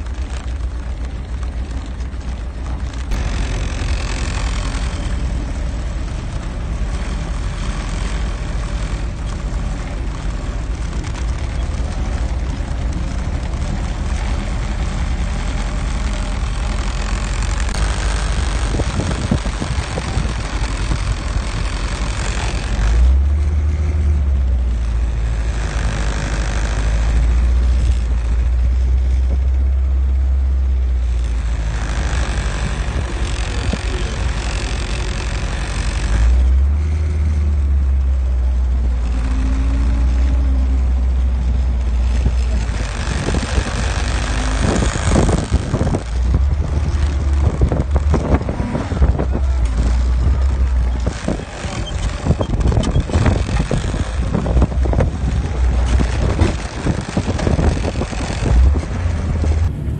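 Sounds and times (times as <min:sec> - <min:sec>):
jeep engine running off-road: 0:00.0 - 0:59.9.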